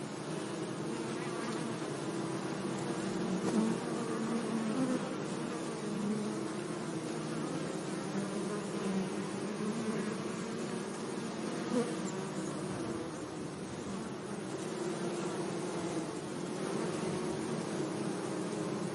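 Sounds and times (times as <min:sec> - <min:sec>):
bees buzzing: 0:00.0 - 0:18.9.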